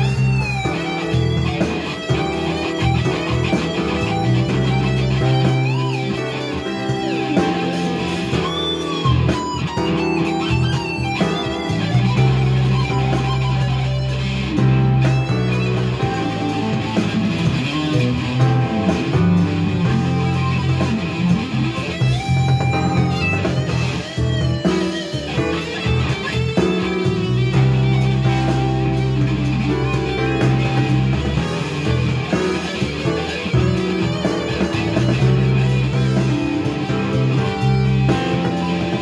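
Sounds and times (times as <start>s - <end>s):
bass backing: 0.0s - 39.0s
distorted electric guitar lead: 0.0s - 39.0s.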